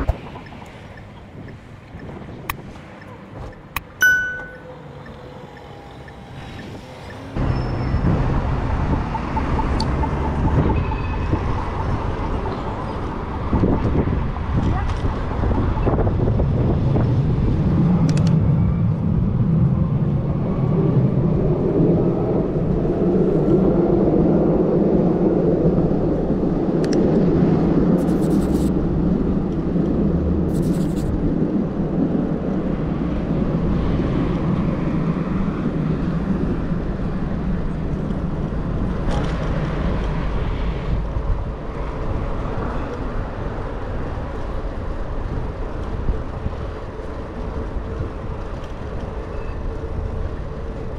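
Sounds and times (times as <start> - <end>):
wind on the microphone: 0.0 - 4.2, 9.8 - 50.9
city road traffic: 0.0 - 50.9.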